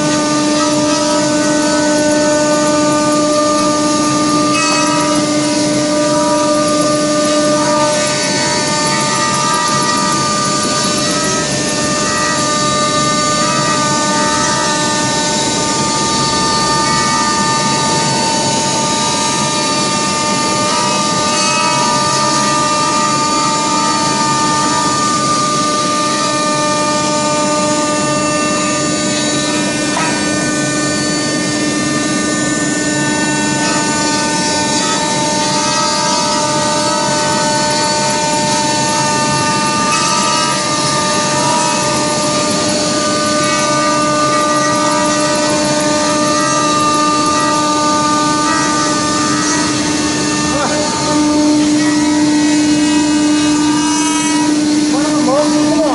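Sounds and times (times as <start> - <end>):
cnc router spindles whining: 0.0 - 55.9.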